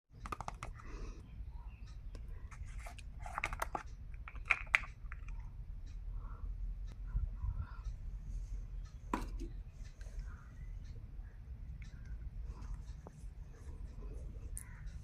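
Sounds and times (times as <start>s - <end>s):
low steady hum: 0.2s - 15.0s.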